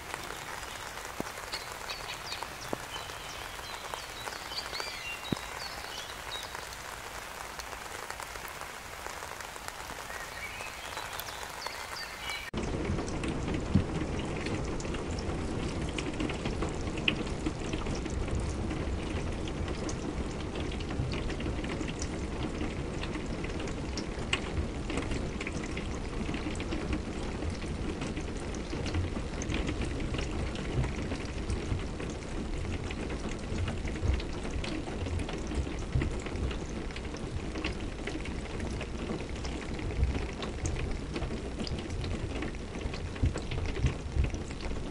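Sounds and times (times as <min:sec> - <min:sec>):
raindrop ticks: 0:00.0 - 0:44.9
steady rain: 0:00.0 - 0:44.9.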